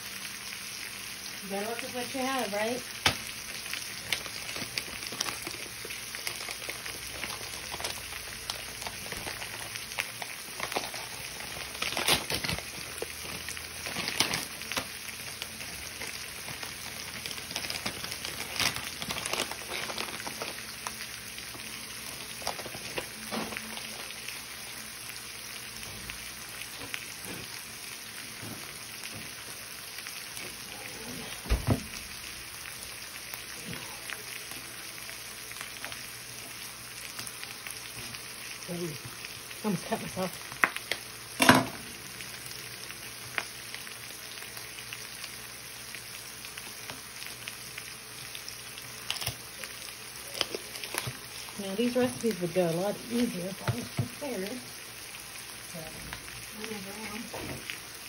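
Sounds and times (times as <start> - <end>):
corn kernels sizzling in butter: 0.0 - 58.0.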